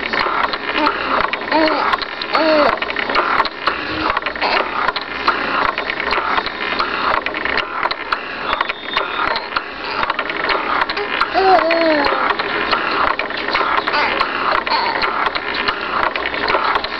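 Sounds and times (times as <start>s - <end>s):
baby swing mechanism whirring: 0.0s - 16.9s
repeated clicking: 0.0s - 16.9s.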